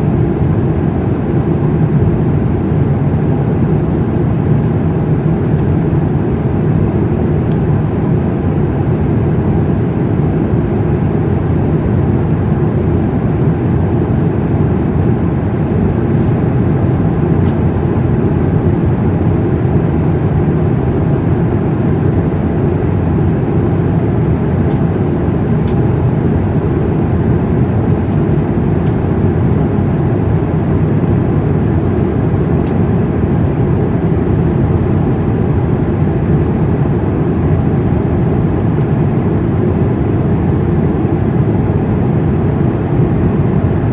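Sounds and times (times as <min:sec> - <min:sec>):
airliner cabin engine and airflow rush: 0:00.0 - 0:43.9.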